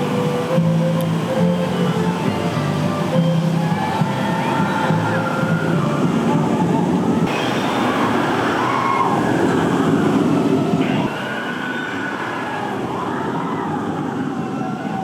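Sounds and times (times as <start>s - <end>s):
roller coaster on steel track: 0.0s - 15.0s.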